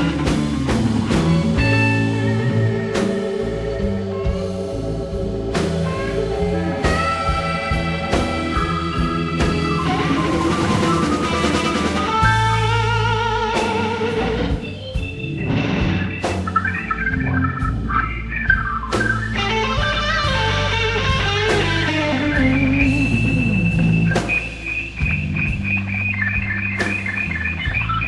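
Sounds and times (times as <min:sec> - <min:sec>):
blues rock music: 0:00.0 - 0:28.0
lead electric guitar: 0:00.0 - 0:28.0.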